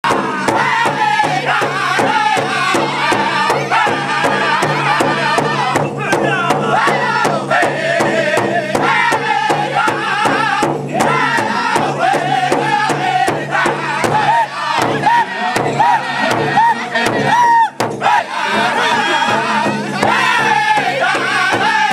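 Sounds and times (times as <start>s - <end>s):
group singing in unison: 0.0s - 21.9s
large drum beating fast: 0.0s - 21.9s.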